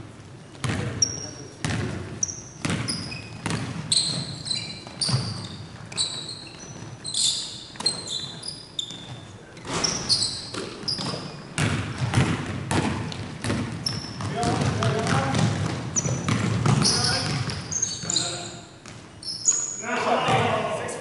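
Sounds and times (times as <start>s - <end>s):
sneaker squeaks: 0.4s - 20.6s
basketball dribbling: 0.5s - 7.2s, 7.8s - 19.1s.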